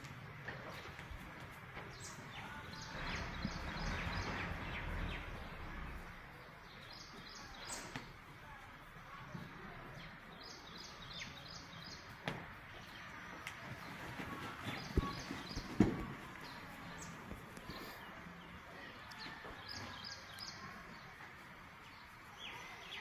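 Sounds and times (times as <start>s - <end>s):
small birds chirping: 0.7s - 23.0s.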